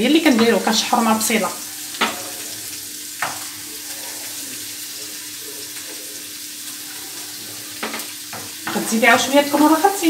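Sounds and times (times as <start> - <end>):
onion sizzling in a frying pan: 0.0 - 10.0.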